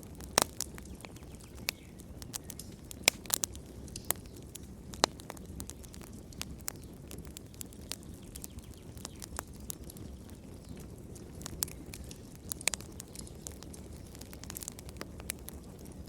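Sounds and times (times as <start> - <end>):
fire pops and snaps: 0.0 - 16.0
low rumble of burning: 0.0 - 16.0
wood fire crackling: 0.0 - 16.0.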